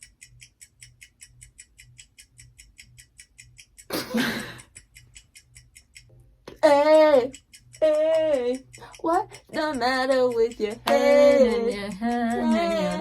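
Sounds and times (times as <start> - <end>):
countdown timer ticking fast: 0.0 - 13.0.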